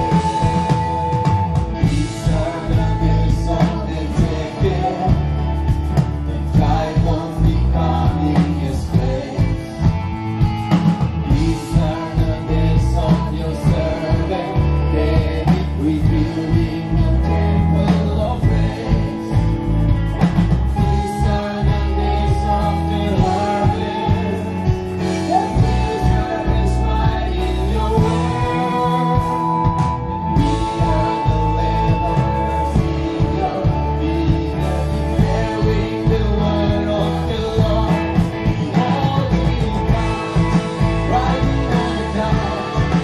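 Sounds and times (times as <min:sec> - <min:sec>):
gospel band playing upbeat song: 0:00.0 - 0:43.0
people singing: 0:00.0 - 0:43.0.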